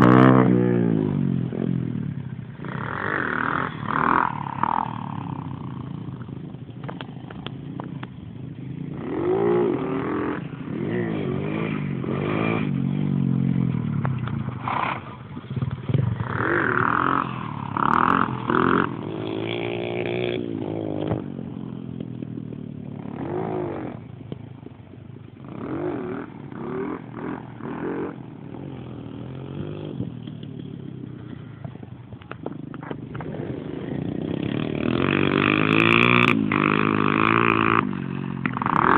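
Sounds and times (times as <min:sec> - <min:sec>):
dirt bike engine revving: 0:00.0 - 0:24.3, 0:25.4 - 0:38.9.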